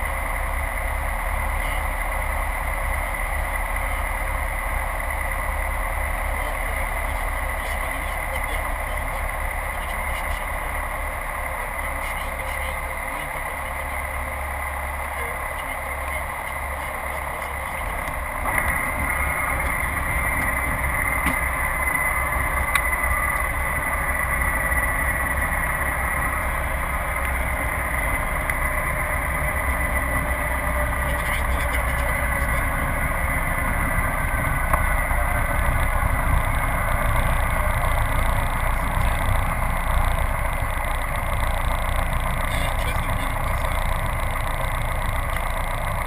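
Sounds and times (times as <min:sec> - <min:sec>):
aircraft engine and propeller running: 0:00.0 - 0:46.0.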